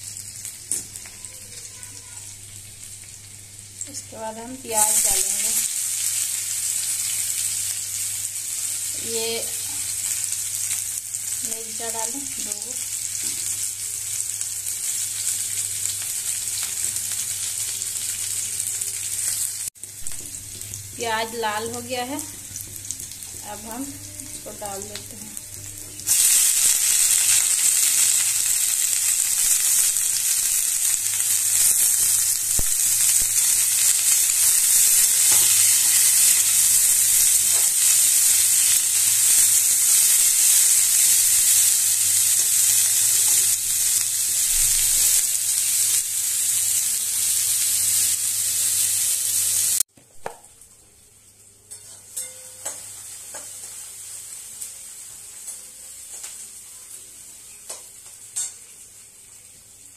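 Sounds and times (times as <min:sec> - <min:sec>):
fruit and onions sizzling in oil: 0:00.0 - 0:59.9.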